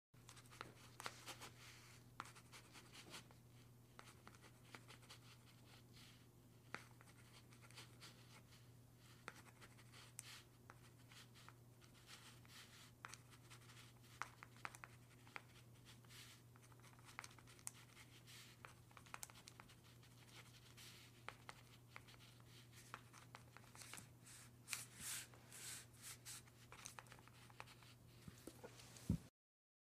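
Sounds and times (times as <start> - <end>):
pen scratching on paper: 0.3 - 3.3, 4.0 - 28.0.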